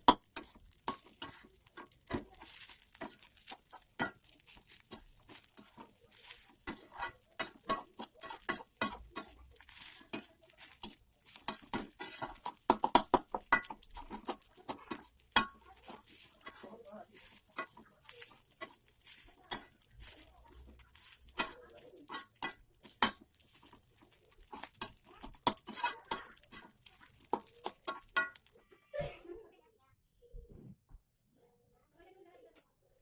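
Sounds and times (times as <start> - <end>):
spatula scraping a frying pan: 0.0 - 28.6.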